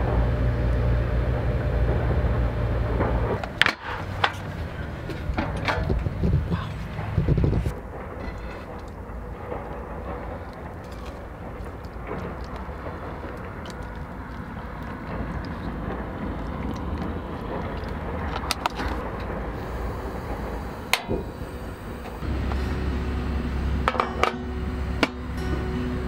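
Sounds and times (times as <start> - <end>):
low steady hum with tones: 0.0 - 26.0.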